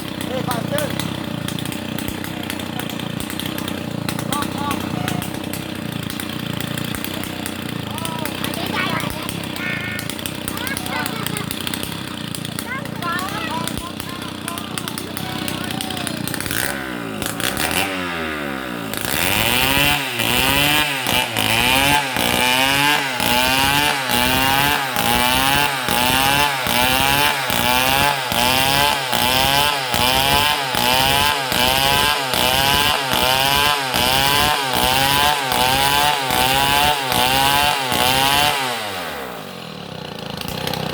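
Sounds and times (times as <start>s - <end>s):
chainsaw cutting: 0.0s - 40.9s.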